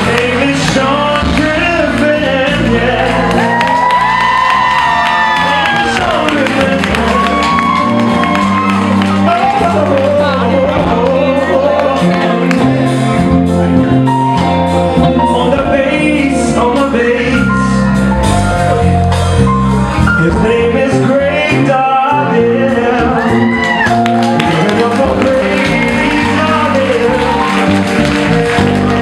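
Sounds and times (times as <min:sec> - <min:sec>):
person singing: 0:00.0 - 0:19.0, 0:19.9 - 0:29.0
live band playing: 0:00.0 - 0:29.0.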